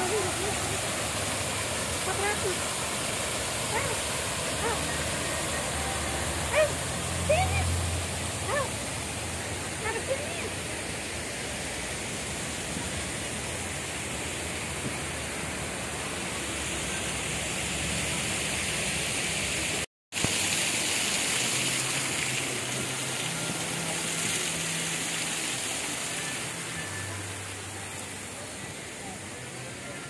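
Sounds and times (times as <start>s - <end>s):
rushing water of waterfall: 0.0s - 30.0s.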